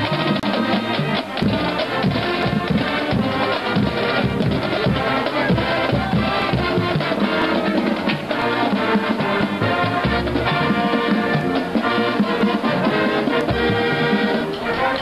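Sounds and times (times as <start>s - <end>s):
saxophones and brass: 0.0s - 15.0s
snare and bass drums: 0.0s - 15.0s.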